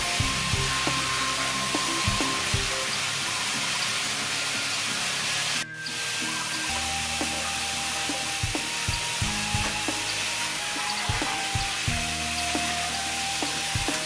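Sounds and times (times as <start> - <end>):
background music: 0.0 - 14.0
water spraying into metal basin: 0.0 - 14.0.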